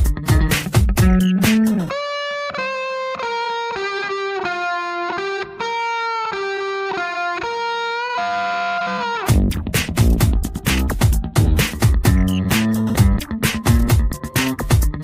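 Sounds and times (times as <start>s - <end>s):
music beat: 0.0s - 7.9s, 8.9s - 15.0s.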